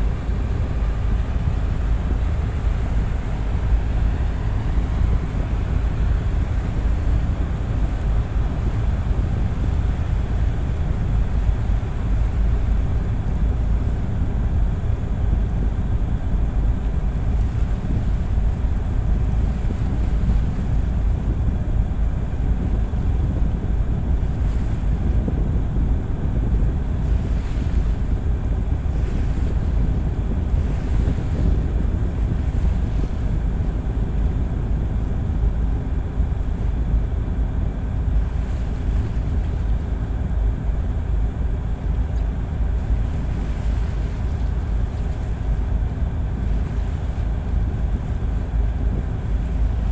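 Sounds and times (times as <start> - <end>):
boat engine drone: 0.0 - 49.9
water washing past hull: 0.0 - 49.9
wind on microphone: 0.0 - 49.9.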